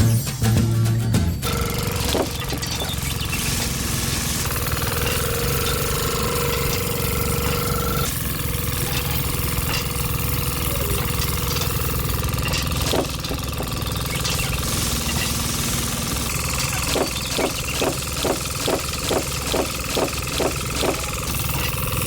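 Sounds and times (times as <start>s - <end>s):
small engine knocking: 1.4s - 22.0s.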